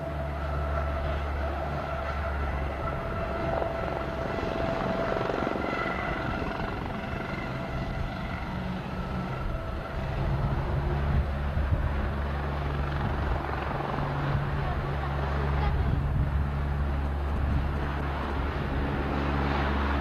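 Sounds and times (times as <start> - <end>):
helicopter hovering: 0.0 - 20.0
turbine high whine: 0.0 - 20.0.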